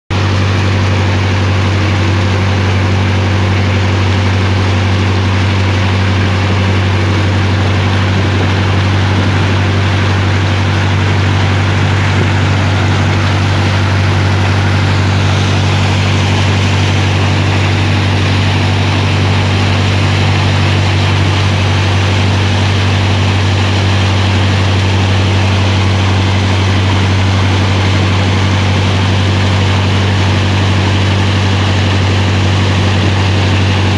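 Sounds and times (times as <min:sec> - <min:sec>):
boat engine running: 0:00.1 - 0:33.9.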